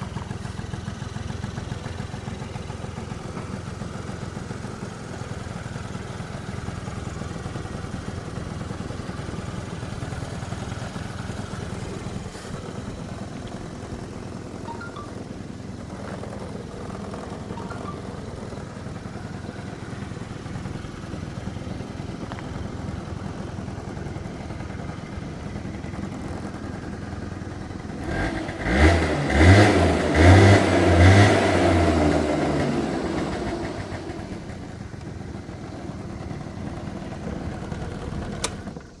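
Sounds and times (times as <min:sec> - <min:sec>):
scooter engine idling and revving: 0:00.0 - 0:39.0.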